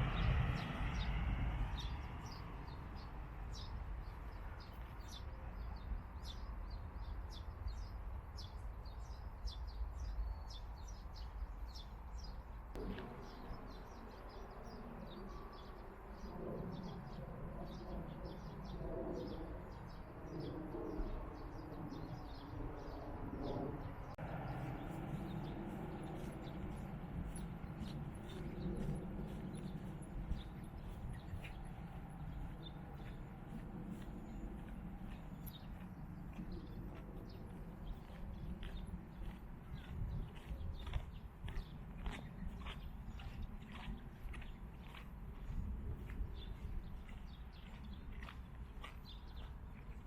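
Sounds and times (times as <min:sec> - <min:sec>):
small birds chirping: 0:00.1 - 0:50.0.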